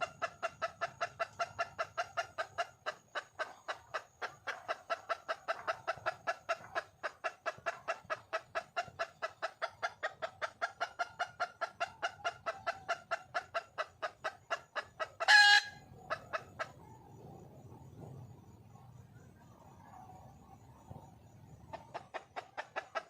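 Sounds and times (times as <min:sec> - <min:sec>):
hen clucking rapidly: 0:00.0 - 0:17.1, 0:21.5 - 0:23.0.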